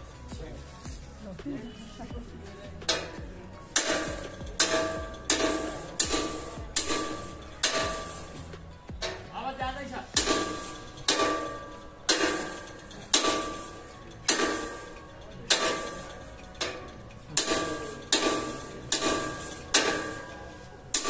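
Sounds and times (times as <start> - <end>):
heavy metal clangs: 2.8 - 21.0.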